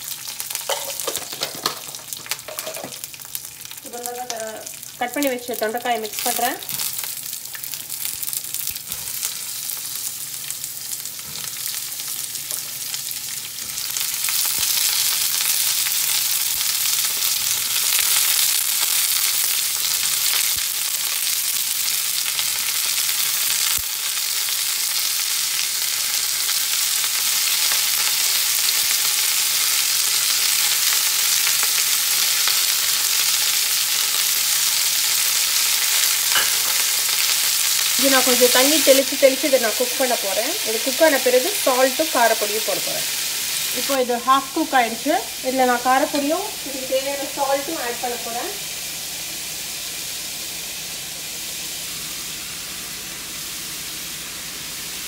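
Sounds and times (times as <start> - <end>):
vegetables sizzling in oil: 0.0 - 55.0.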